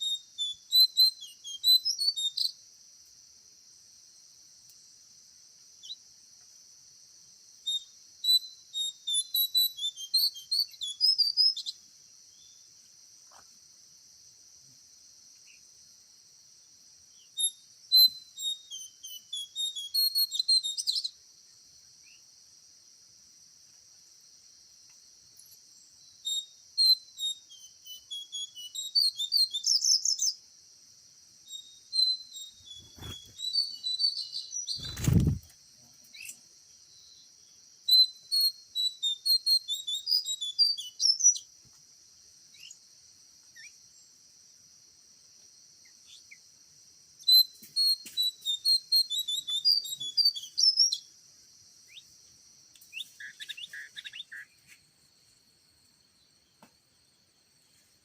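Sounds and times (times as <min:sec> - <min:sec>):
songbird chirping: 0:00.0 - 0:14.0, 0:14.6 - 0:44.6, 0:45.2 - 0:58.0
high insect drone: 0:00.0 - 0:58.0.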